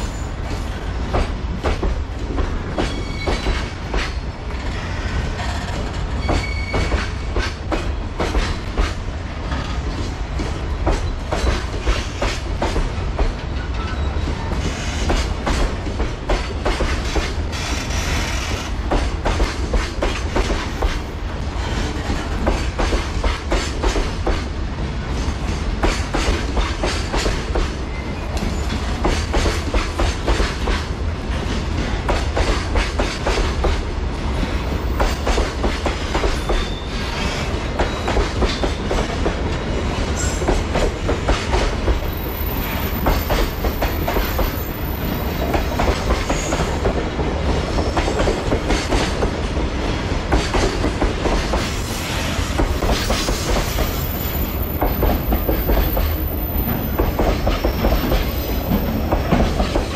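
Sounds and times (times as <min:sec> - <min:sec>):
train wheels clicking on rails: 0:00.0 - 0:59.9.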